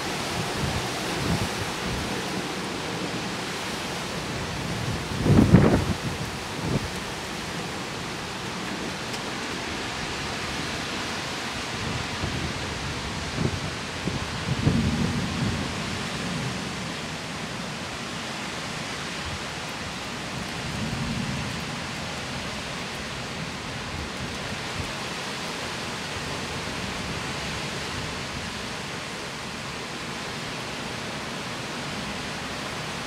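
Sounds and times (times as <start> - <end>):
strong storm wind gusts: 0.0 - 33.0.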